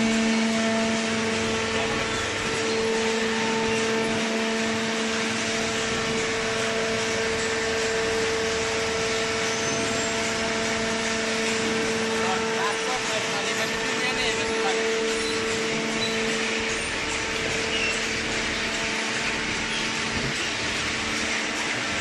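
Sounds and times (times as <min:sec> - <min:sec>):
baler machine humming: 0:00.0 - 0:22.0.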